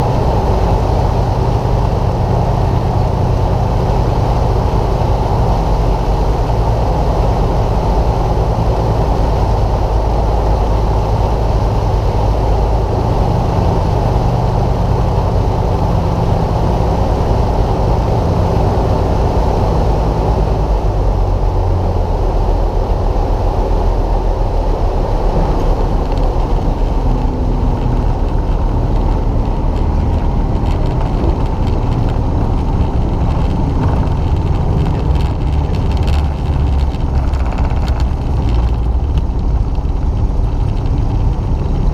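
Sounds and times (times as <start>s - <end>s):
propeller plane engine droning: 0.0s - 41.9s.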